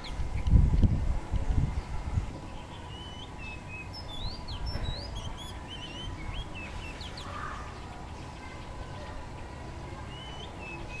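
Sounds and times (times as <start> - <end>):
small songbird chirping: 0.0 - 0.9, 1.8 - 11.0.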